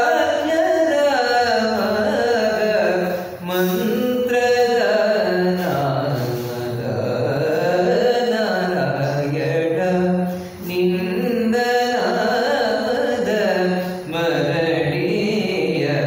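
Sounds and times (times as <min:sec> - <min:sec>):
man chanting a sung melody: 0:00.0 - 0:16.0.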